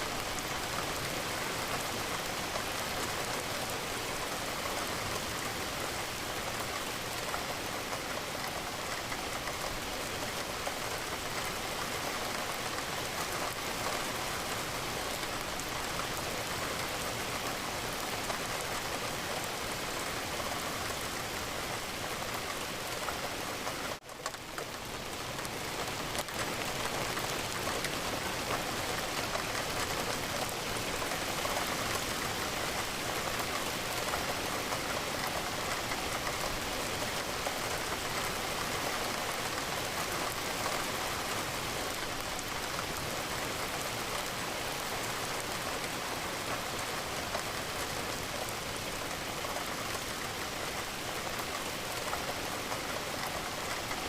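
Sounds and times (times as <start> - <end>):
rain pattering on window: 0.0 - 54.0.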